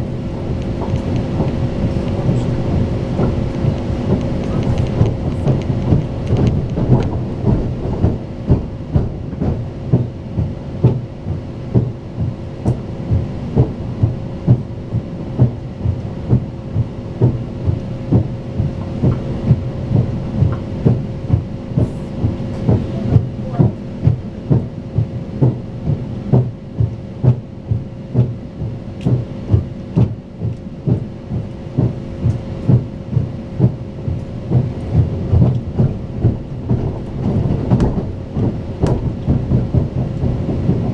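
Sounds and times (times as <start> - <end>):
train wheels clicking over rail joints: 0.0 - 14.7, 17.2 - 24.7, 25.4 - 40.9
rolling rumble: 0.0 - 40.9.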